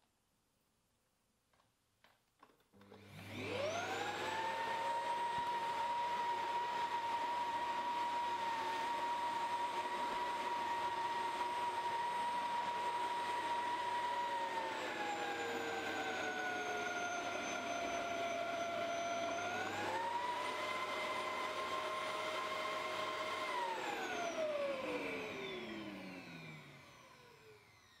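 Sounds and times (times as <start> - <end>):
vacuum cleaner motor whining: 2.7 - 28.0.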